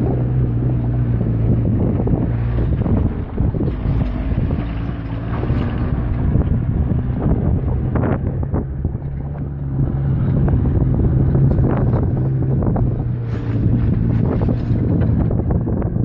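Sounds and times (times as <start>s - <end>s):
car engine running: 0.0s - 16.0s
wind buffeting the microphone: 0.0s - 16.0s.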